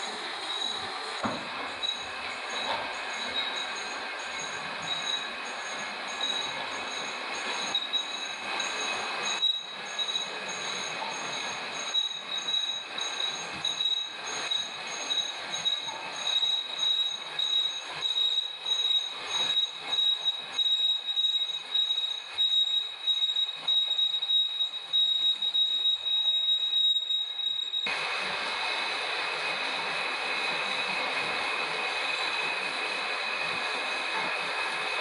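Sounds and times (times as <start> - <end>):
lathe squealing: 0.0 - 35.0.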